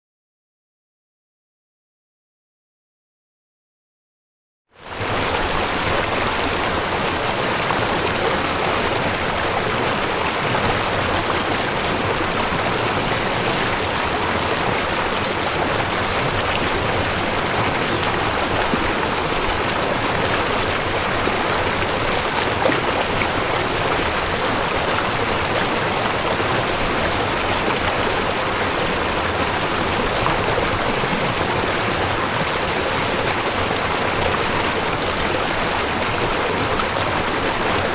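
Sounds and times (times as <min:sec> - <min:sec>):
river water rushing: 0:04.9 - 0:37.9.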